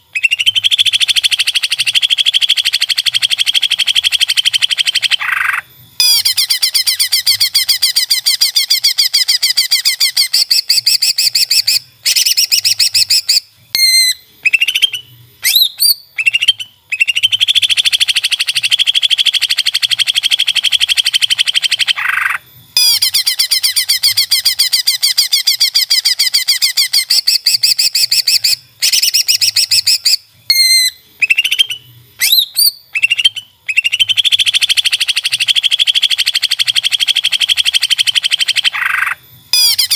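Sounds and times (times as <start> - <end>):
bird singing fast chattering trills: 0.0 - 39.9
rising whistled bird notes: 0.1 - 39.9.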